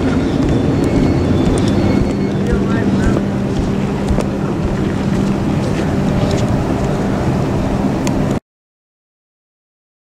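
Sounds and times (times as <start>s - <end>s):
train interior rumble: 0.0s - 8.4s.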